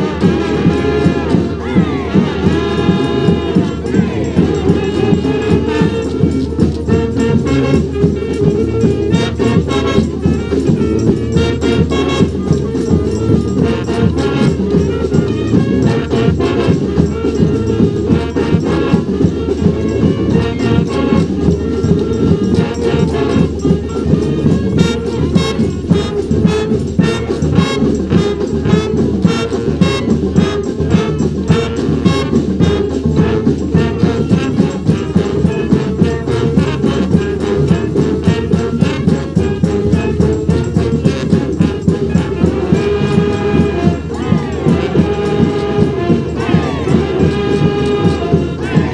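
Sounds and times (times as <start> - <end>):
steady drum beat: 0.0 - 48.9
street brass band playing: 0.0 - 48.9.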